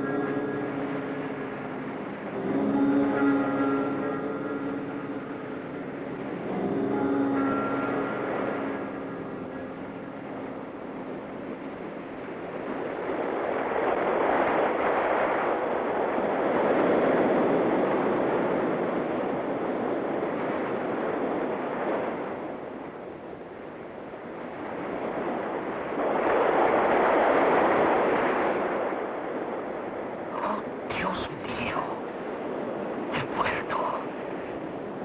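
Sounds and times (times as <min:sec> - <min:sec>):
waves breaking on a beach: 0:00.0 - 0:35.0.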